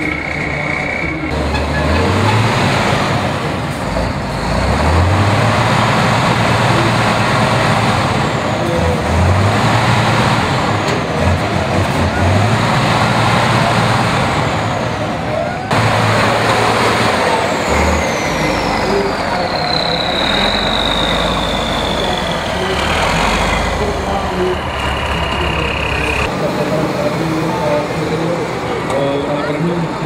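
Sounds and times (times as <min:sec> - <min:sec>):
diesel truck engine revving: 0:00.0 - 0:30.0.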